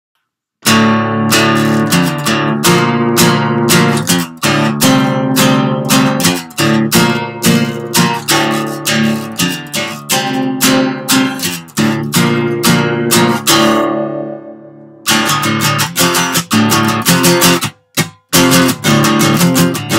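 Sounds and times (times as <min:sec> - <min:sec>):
acoustic guitar strumming chords: 0:00.6 - 0:19.9.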